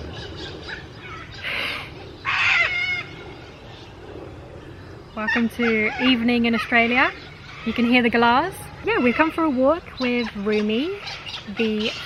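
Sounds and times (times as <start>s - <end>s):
galahs calling: 0.0s - 12.0s.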